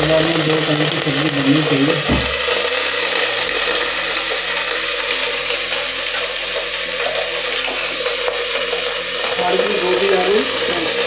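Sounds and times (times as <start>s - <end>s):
rushing hiss of kitchen noise: 0.0s - 11.0s.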